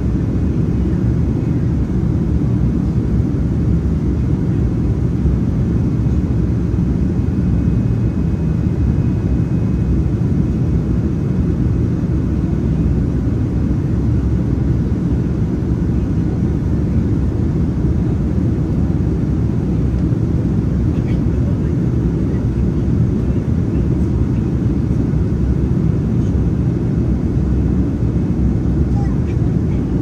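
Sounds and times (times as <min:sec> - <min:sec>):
airplane cabin roar: 0:00.0 - 0:30.0.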